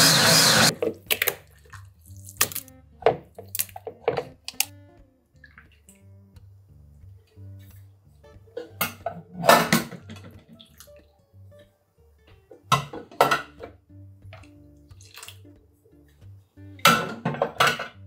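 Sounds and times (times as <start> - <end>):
quiet acoustic guitar music: 0.7 - 18.0.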